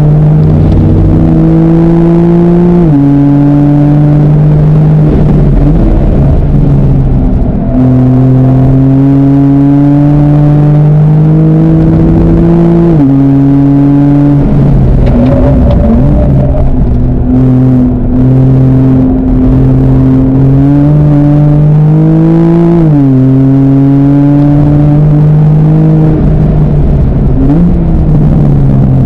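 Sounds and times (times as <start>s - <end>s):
car engine at speed: 0.0s - 29.0s.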